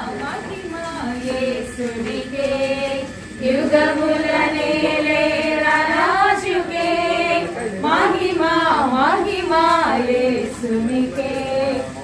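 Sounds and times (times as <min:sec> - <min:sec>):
group singing worship song: 0:00.0 - 0:12.0.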